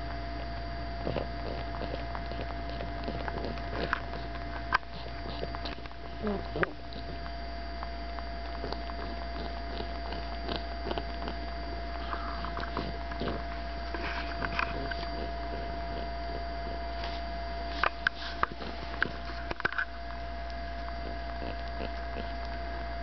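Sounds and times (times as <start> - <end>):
dog snuffling and sucking: 0.0 - 22.8
steady low hum: 0.0 - 23.0.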